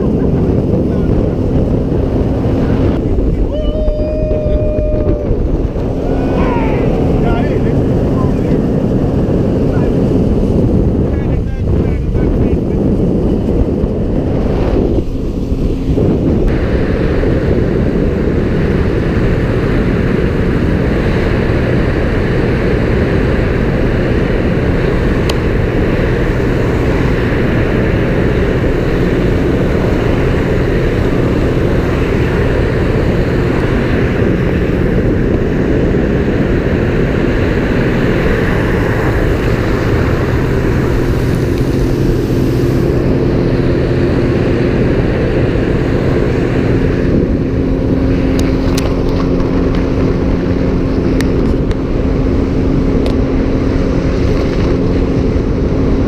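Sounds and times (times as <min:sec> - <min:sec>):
boat engine running: 0:00.0 - 0:56.0
water rushing past hull: 0:00.0 - 0:56.0
wind buffeting microphone: 0:00.0 - 0:56.0.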